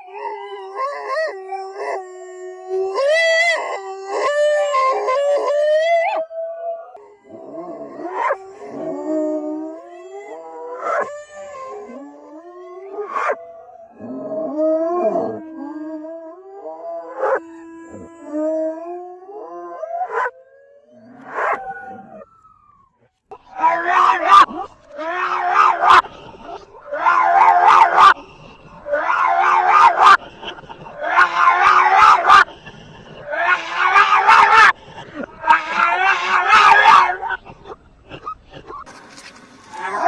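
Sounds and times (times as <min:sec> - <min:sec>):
dogs howling: 0:00.0 - 0:38.9.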